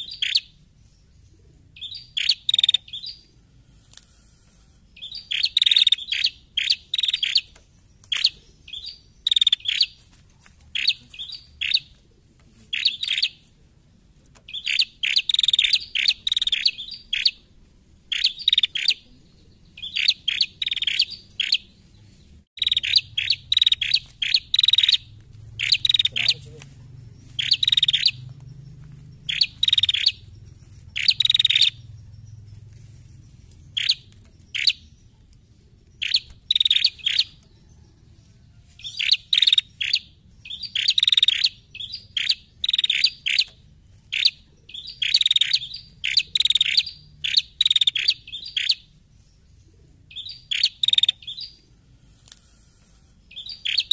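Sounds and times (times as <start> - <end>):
bird sharp high chirps: 0.0 - 3.4, 4.8 - 10.0, 10.7 - 12.0, 12.7 - 13.4, 14.5 - 17.4, 18.1 - 21.8, 22.6 - 26.6, 27.2 - 32.6, 33.3 - 37.8, 38.8 - 48.9, 50.1 - 51.6, 53.3 - 53.9.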